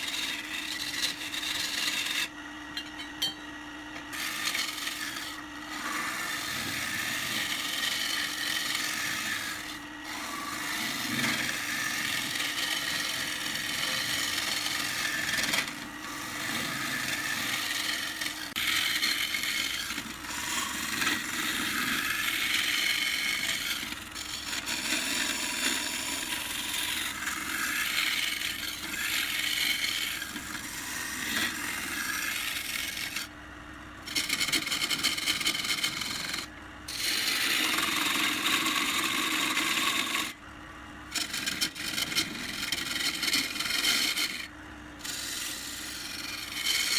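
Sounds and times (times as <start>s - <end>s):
tool scraping wood on a lathe: 0.0s - 3.1s, 3.9s - 33.3s, 34.0s - 40.4s, 41.1s - 46.9s.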